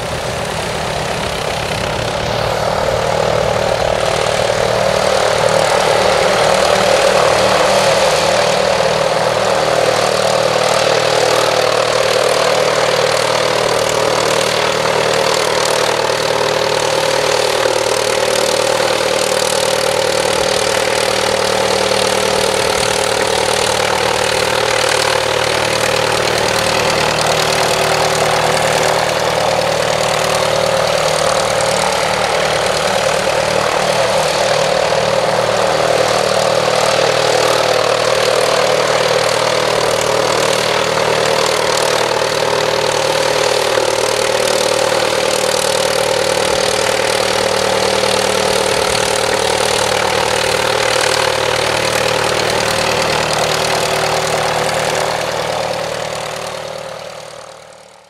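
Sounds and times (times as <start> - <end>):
propeller aero engine idling: 0.0 - 58.0.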